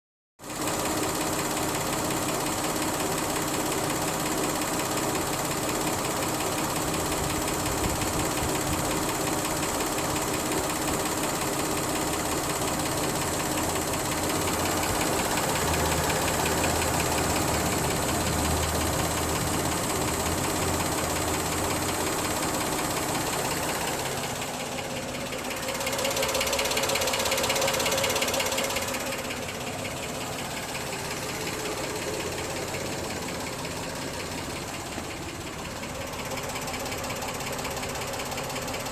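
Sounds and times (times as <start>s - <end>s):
engine with ticking clatter: 0.4s - 38.9s.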